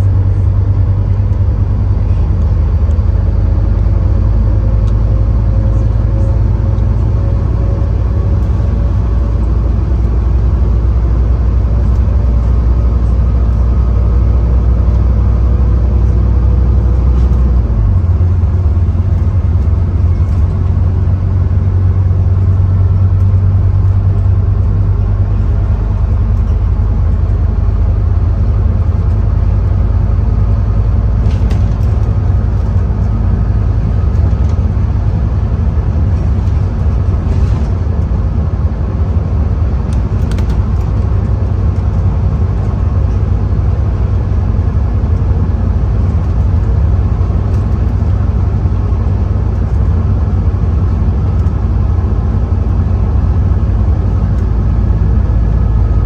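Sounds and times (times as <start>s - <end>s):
bus diesel engine under load: 0.0s - 56.0s.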